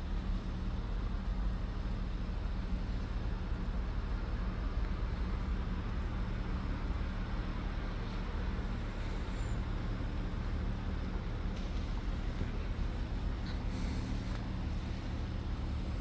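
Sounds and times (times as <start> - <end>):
low engine rumble: 0.0 - 16.0
traffic hiss: 0.0 - 16.0.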